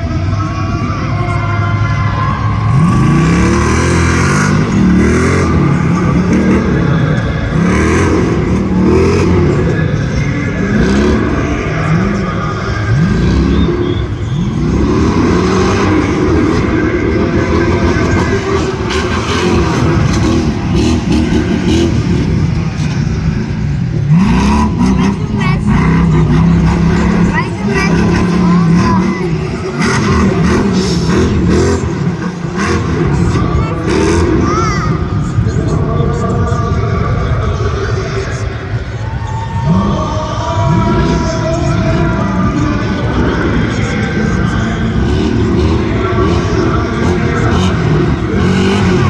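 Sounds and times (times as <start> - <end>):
off-road vehicle engines revving: 0.0 - 49.0.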